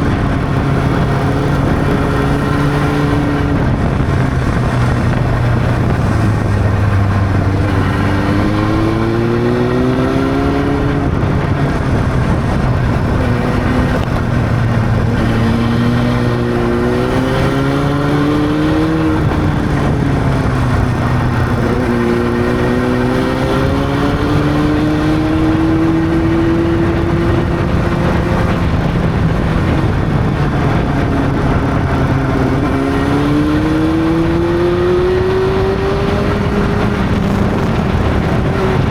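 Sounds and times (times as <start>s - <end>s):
motorcycle engine revving: 0.0s - 38.9s
rush of noise: 0.0s - 38.9s.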